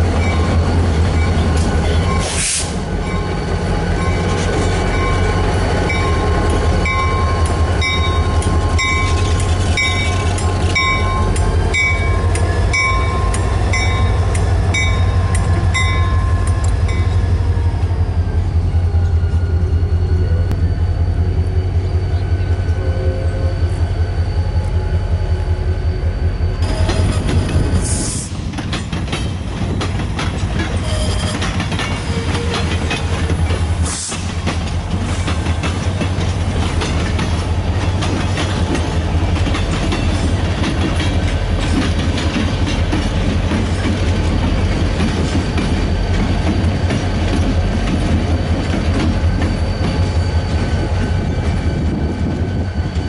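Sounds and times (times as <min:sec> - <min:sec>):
train wheels clicking on track: 0:00.0 - 0:21.8, 0:26.4 - 0:53.0
locomotive bell ringing: 0:00.0 - 0:27.8, 0:36.7 - 0:53.0
diesel locomotive engine rumble: 0:00.0 - 0:53.0.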